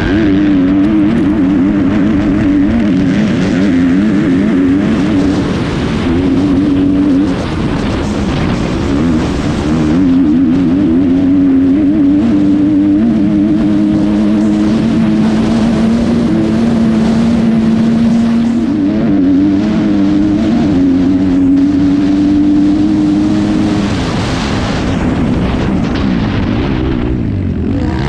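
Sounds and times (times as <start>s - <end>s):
dirt bike engine at high revs: 0.0s - 28.0s.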